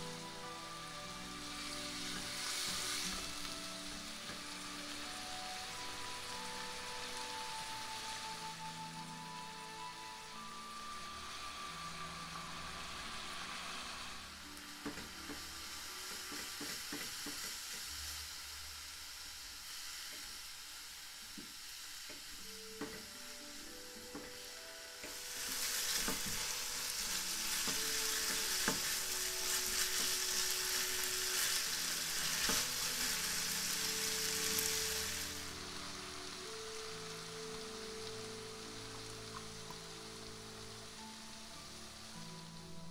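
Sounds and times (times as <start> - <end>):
noodles sizzling in a wok: 0.0 - 42.9.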